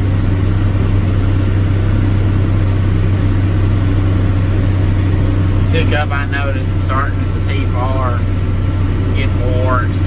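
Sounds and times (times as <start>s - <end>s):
tractor engine running steadily: 0.0s - 10.0s.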